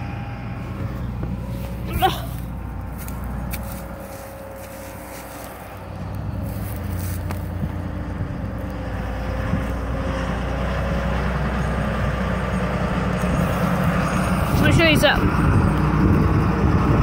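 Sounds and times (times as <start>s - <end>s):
combine harvester engine passing: 0.0s - 17.0s.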